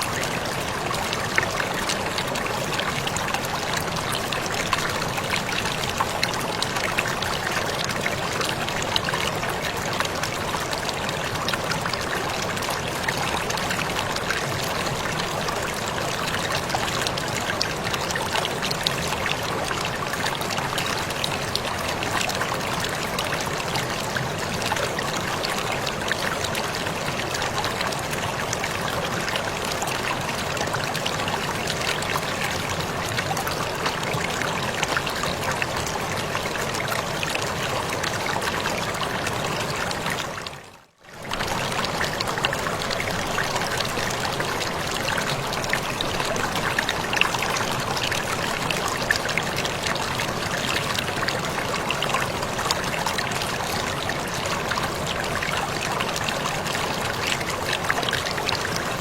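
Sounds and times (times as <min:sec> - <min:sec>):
waterfall pouring: 0:00.0 - 0:59.0.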